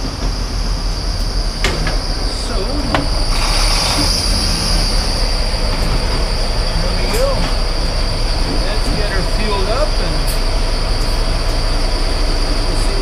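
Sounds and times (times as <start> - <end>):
constant high whine: 0.0 - 13.0
diesel truck engines idling: 0.0 - 13.0.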